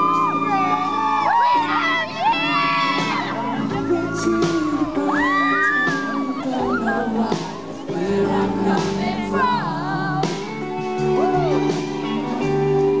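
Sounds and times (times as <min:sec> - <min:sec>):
live band music: 0:00.0 - 0:13.0
person singing: 0:01.6 - 0:13.0.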